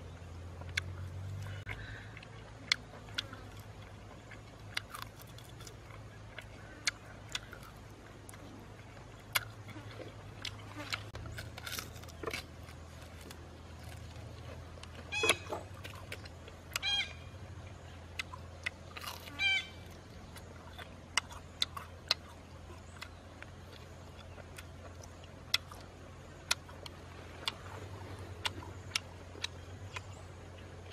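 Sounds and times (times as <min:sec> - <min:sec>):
steady low hum: 0:00.0 - 0:30.9
lip-smacking and chewing clicks: 0:00.6 - 0:16.9, 0:17.7 - 0:30.2.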